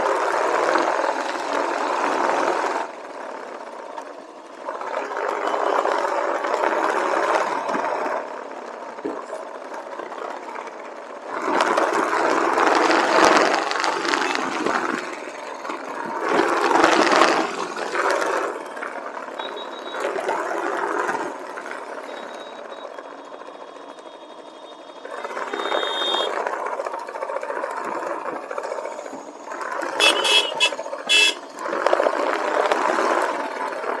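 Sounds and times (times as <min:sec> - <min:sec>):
motorcycle engine: 0:00.0 - 0:34.0.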